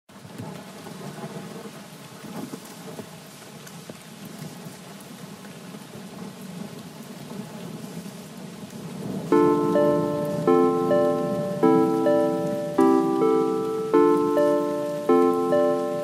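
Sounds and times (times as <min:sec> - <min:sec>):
steady rain falling: 0:00.1 - 0:16.0.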